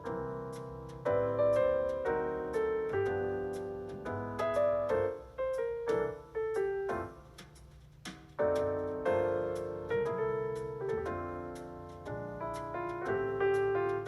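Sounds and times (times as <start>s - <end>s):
piano melody over chords: 0.0s - 14.0s.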